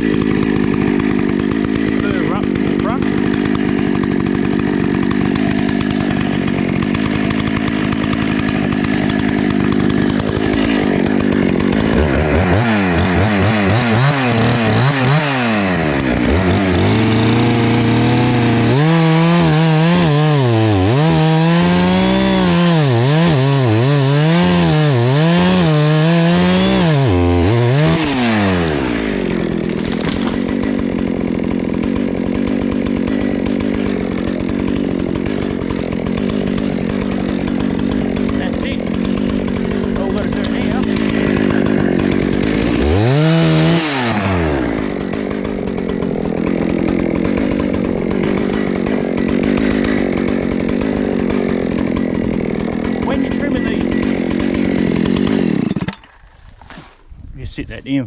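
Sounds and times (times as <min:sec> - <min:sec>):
chainsaw cutting wood: 0:00.0 - 0:57.1.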